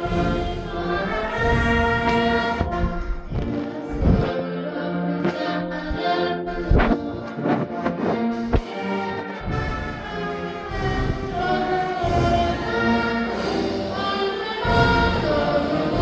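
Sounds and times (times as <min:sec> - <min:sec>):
drum beats: 0:00.0 - 0:04.3, 0:06.6 - 0:14.0, 0:14.6 - 0:16.0
brass band sustained chords: 0:00.0 - 0:06.6, 0:07.2 - 0:16.0.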